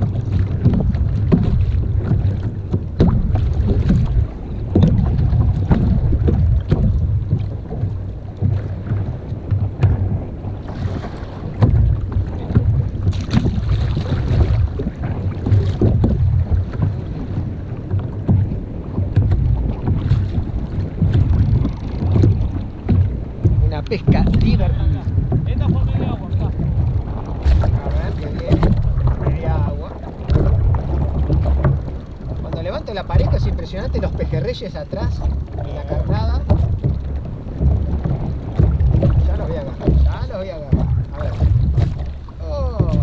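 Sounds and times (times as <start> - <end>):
knocks on boat hull: 0.0 - 43.0
wind buffeting microphone: 0.0 - 43.0.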